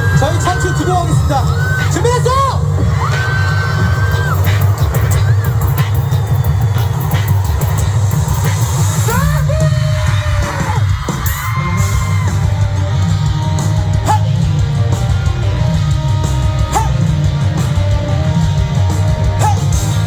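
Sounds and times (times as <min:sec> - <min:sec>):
crowd yelling and cheering: 0:00.0 - 0:20.0
live rock band playing: 0:00.0 - 0:20.0.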